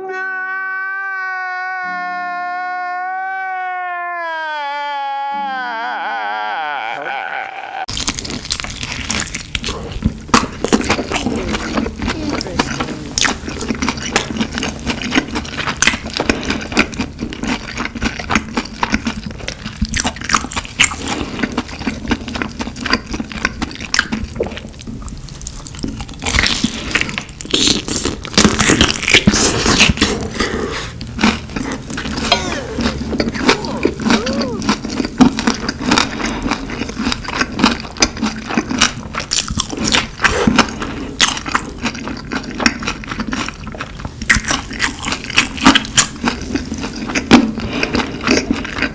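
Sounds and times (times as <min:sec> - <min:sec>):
chewing and crunching: 0:07.9 - 0:48.9.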